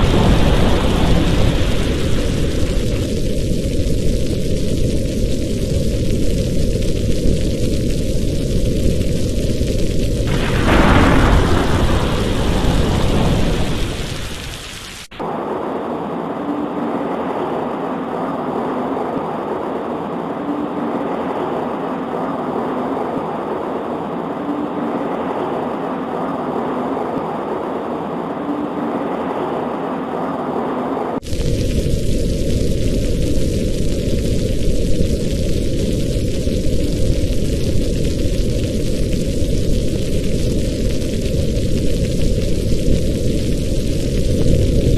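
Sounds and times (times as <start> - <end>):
rain on a window pane: 0.0 - 44.9
rolling thunder: 0.0 - 44.9.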